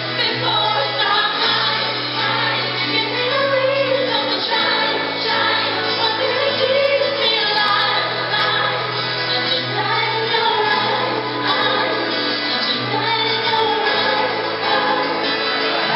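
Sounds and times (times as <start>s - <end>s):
pop band backing track: 0.0s - 15.9s
women singing in harmony: 0.0s - 15.9s.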